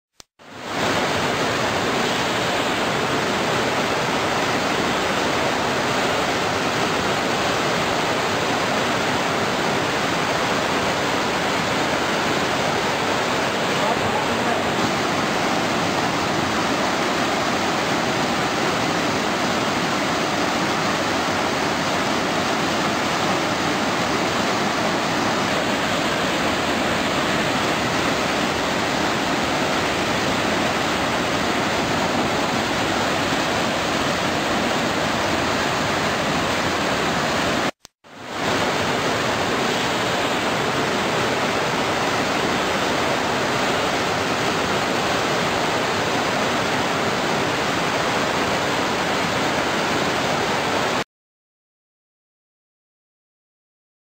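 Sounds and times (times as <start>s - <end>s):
river rushing in flood: 0.4s - 51.0s.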